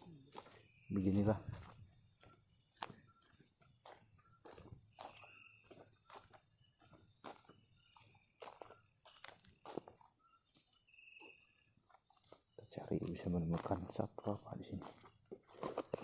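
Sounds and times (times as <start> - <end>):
insect chorus buzzing and trilling: 0.0 - 16.0.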